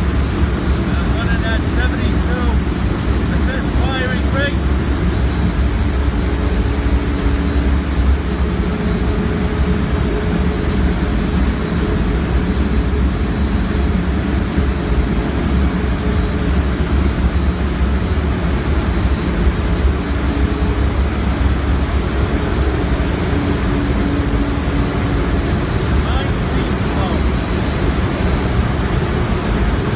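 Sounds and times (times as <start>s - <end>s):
boiler rumbling and hissing: 0.0s - 29.9s.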